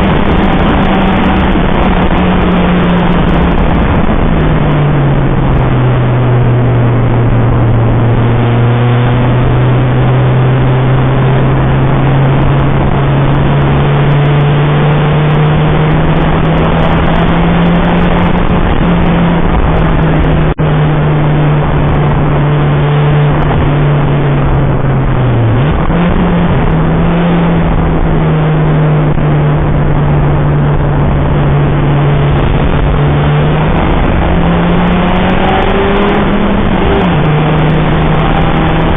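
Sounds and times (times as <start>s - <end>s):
car engine running hard: 0.0s - 38.9s.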